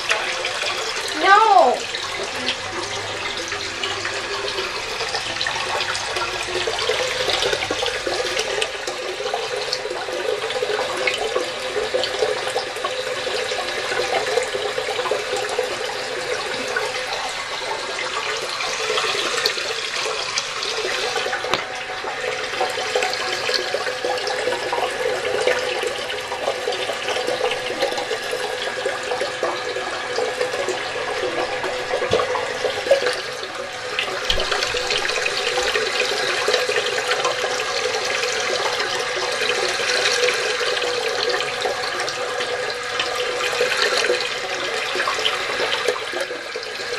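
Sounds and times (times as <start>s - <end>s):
toilet tank refilling: 0.0s - 46.9s.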